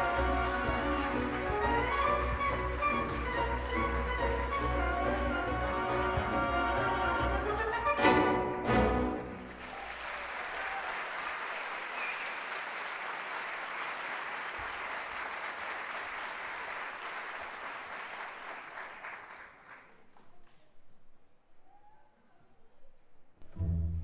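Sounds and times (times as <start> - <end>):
audience applauding: 0.0 - 7.7, 8.9 - 20.5.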